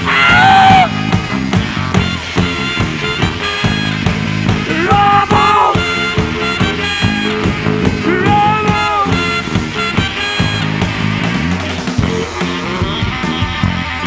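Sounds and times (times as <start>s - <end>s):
drum beat: 0.0s - 14.0s
electric guitar lead line: 0.0s - 14.0s
rockabilly band playing: 0.0s - 14.0s.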